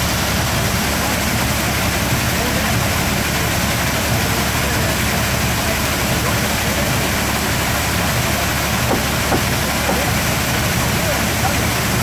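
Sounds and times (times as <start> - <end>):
water rushing down rocks: 0.0 - 12.0.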